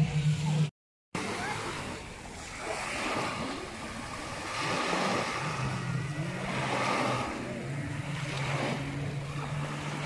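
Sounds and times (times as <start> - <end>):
watercraft engine running: 0.0 - 10.0
small waves on sandy shore: 1.2 - 10.0.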